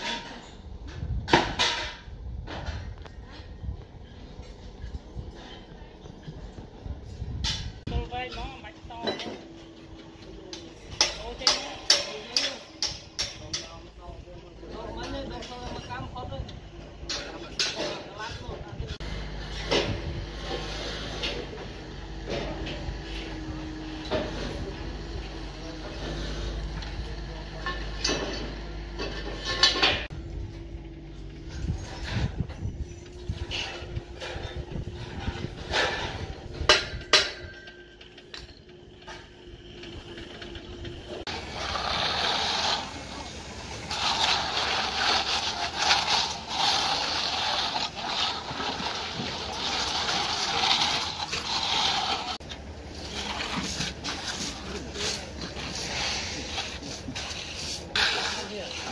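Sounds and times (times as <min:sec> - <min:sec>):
straightedge scraping wet concrete: 0:07.2 - 0:30.2, 0:31.5 - 0:58.9.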